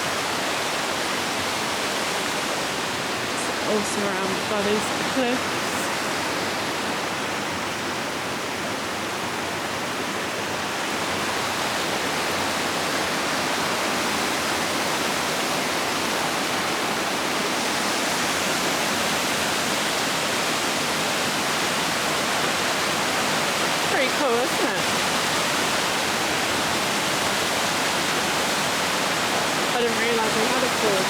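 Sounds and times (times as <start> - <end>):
small waterfall pouring: 0.0 - 31.0.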